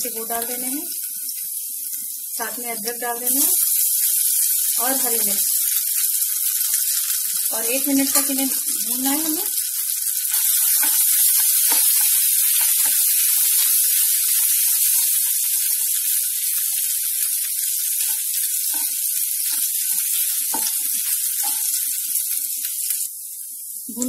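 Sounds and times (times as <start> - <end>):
garlic sizzling in hot oil: 0.0 - 24.0.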